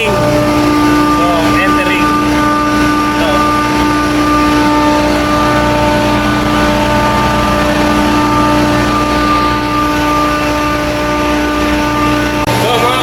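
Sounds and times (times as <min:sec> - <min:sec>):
chiller machine hum: 0:00.0 - 0:13.0
steady machine tones: 0:00.0 - 0:13.0.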